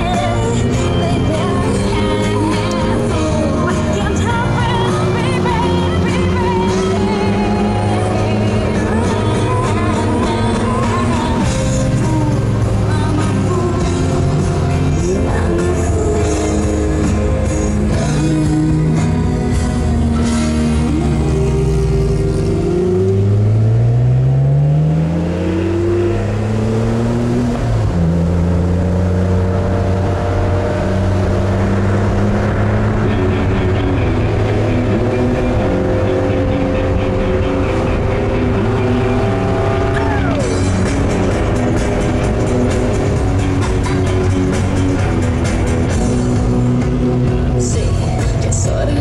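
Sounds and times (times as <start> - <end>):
car engine accelerating: 0.0 - 49.0
music: 0.0 - 49.0.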